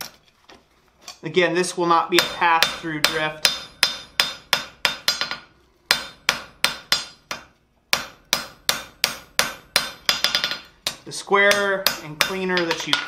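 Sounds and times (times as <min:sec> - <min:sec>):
hammer striking hot steel on anvil: 0:02.2 - 0:13.0.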